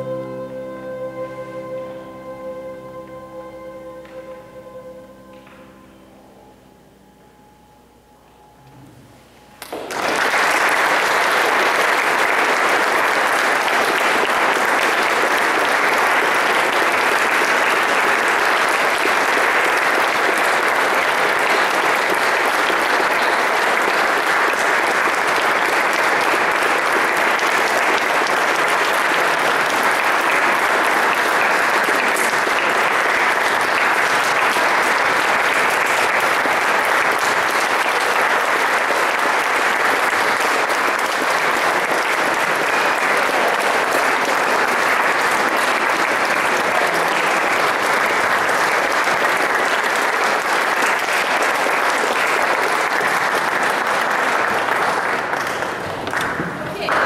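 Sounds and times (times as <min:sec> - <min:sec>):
audience applauding: 0:09.6 - 0:57.0.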